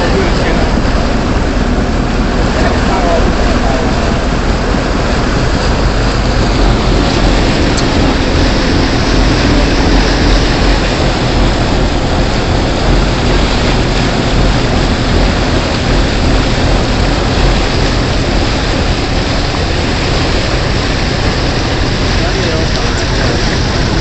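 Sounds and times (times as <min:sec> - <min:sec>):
boat engine humming: 0:00.0 - 0:24.0
rush of wind and water: 0:00.0 - 0:24.0.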